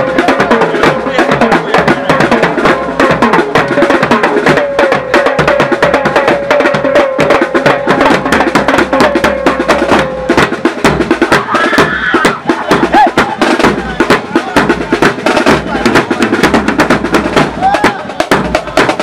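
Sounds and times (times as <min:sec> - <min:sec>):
marching bass drums: 0:00.0 - 0:19.0
snare drum: 0:00.0 - 0:19.0.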